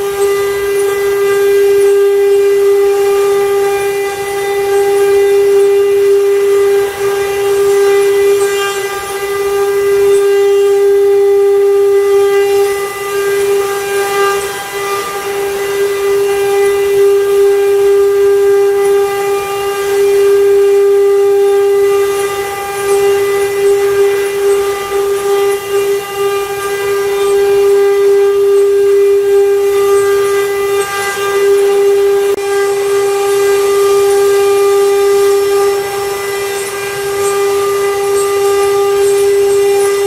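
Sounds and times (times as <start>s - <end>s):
router spindle high-pitched whine: 0.0s - 40.0s.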